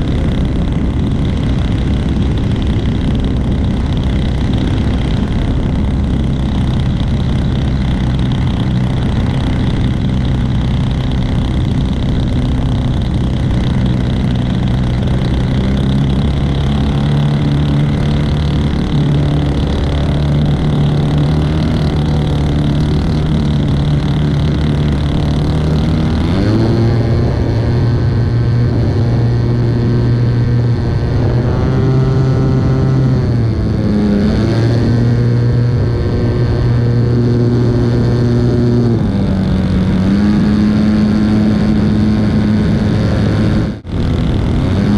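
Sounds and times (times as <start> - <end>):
model plane engine droning: 0.0 - 44.9.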